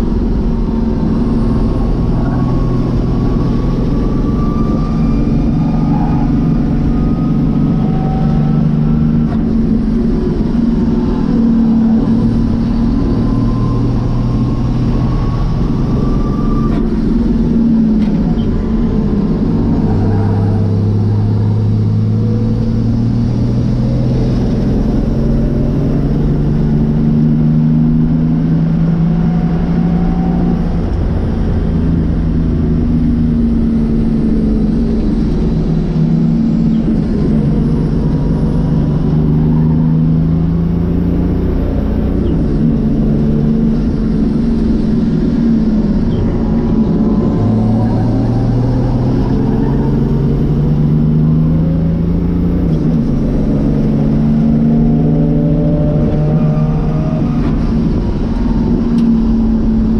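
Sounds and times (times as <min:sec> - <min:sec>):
diesel engine revving under load: 0:00.0 - 0:59.9.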